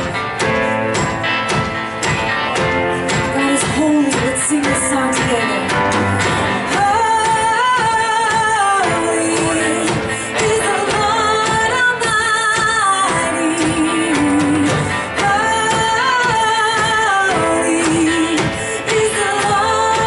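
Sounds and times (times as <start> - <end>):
steady drum beat: 0.0 - 20.0
worship band playing: 0.0 - 20.0
person singing: 2.6 - 20.0.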